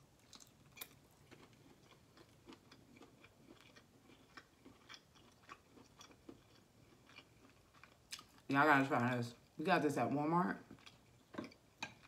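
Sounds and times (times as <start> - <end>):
person chewing: 0.2 - 8.5, 10.6 - 12.0.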